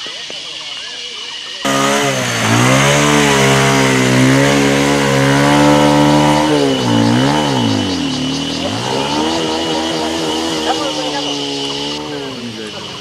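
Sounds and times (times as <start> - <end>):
motorbike engine running: 1.7 - 13.0.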